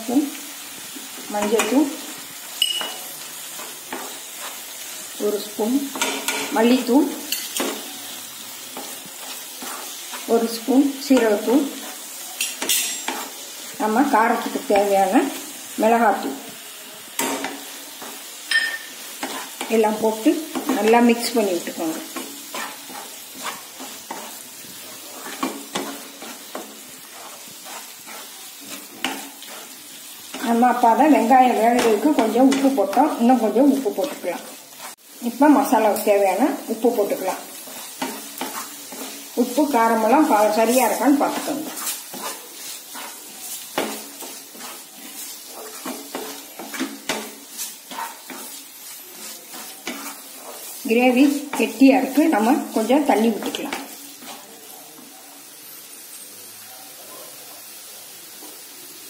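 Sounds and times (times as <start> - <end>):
masala sizzling in a pan: 0.0 - 59.0.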